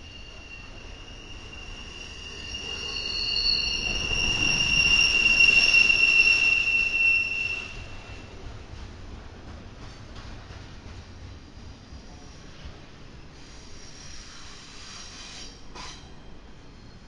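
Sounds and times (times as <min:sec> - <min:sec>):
train wheels squealing on rail: 0:00.0 - 0:08.4, 0:11.4 - 0:17.0
low rumble of train: 0:00.0 - 0:17.0.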